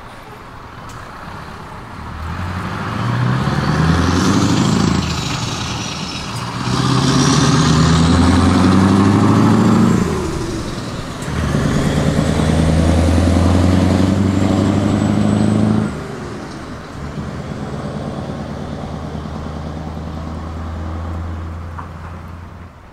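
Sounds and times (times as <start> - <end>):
truck engine pulling away: 0.8 - 22.8.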